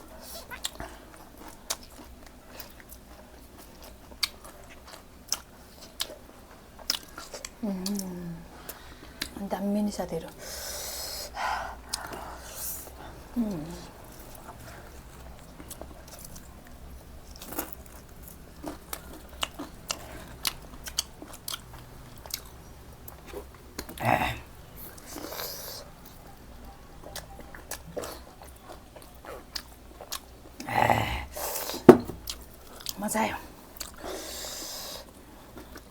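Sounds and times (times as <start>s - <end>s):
person chewing food: 0.0s - 9.4s, 10.3s - 35.9s.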